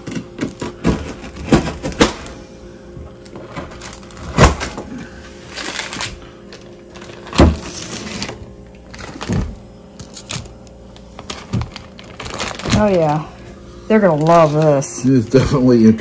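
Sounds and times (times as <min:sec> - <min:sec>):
paper and plastic bags rustling: 0:03.1 - 0:16.0.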